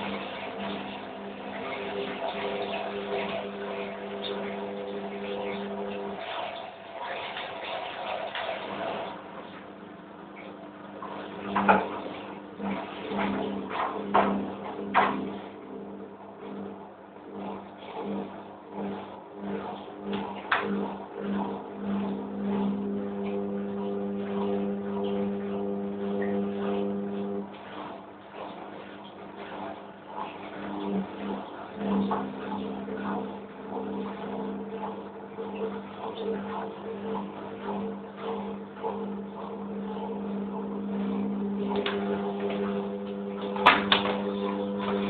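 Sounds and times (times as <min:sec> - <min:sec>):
washing machine motor hum: 0:00.0 - 0:45.0
water sloshing in drum: 0:00.0 - 0:45.0.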